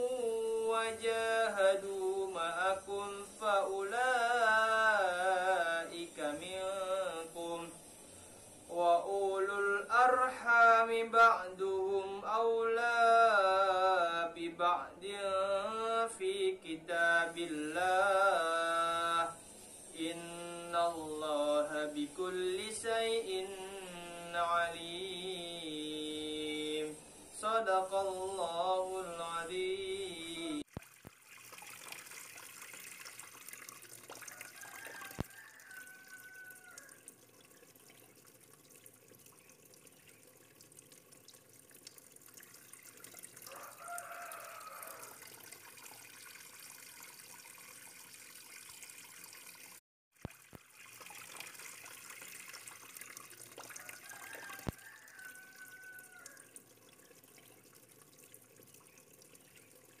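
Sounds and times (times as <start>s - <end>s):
faint running water: 0.0s - 60.0s.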